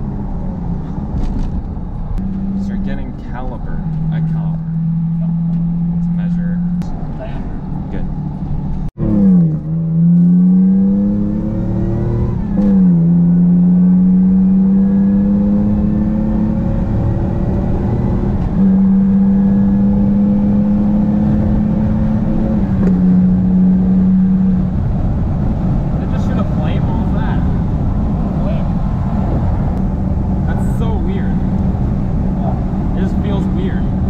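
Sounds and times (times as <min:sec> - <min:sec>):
car engine accelerating: 0:00.0 - 0:34.0
road noise: 0:00.0 - 0:34.0.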